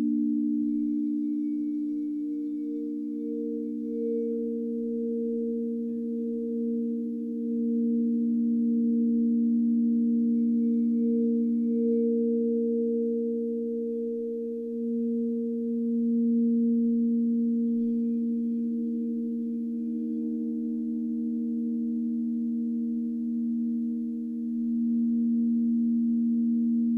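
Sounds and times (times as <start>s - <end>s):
crystal singing bowls ringing: 0.0s - 26.9s.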